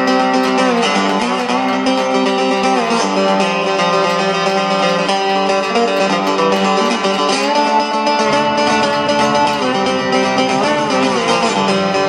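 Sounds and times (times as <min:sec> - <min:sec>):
guitar-led country music: 0:00.0 - 0:12.0.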